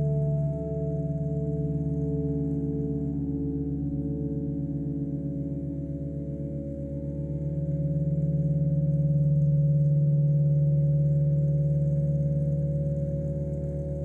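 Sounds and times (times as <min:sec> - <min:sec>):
ambient electronic drone music: 0:00.0 - 0:14.0.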